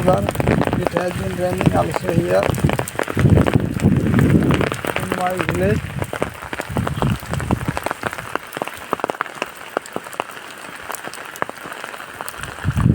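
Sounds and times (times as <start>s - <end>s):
rain falling: 0.0s - 12.9s
raindrops ticking and splatting: 0.0s - 12.9s.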